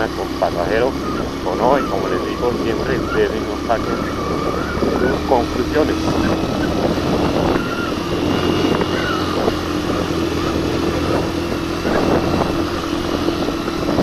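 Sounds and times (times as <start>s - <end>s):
motorcycle engine pulling under load: 0.0s - 14.0s.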